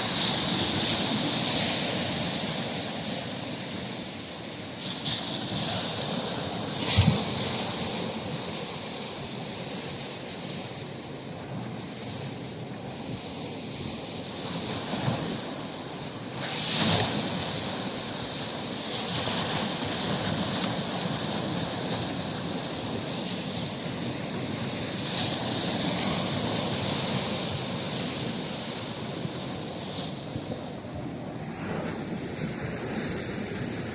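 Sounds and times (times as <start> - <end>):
sea waves washing onto shore: 0.0 - 33.9.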